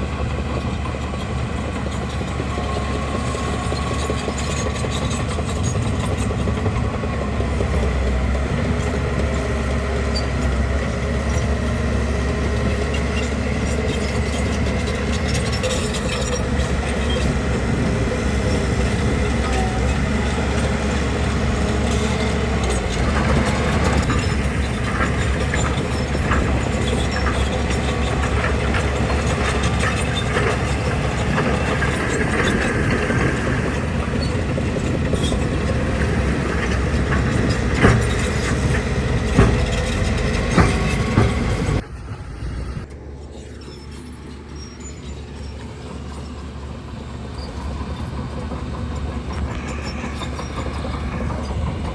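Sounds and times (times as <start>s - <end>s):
bulldozer diesel engine running: 0.0s - 51.9s
steel tracks clanking: 0.0s - 51.9s.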